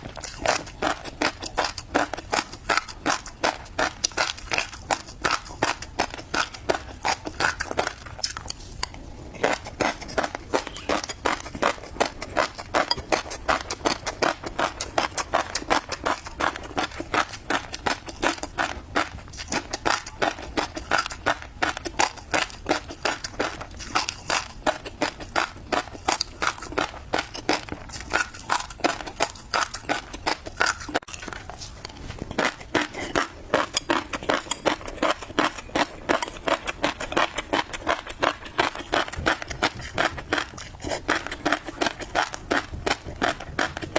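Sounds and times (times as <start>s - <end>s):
chewing crunchy fish roe: 0.0s - 43.9s.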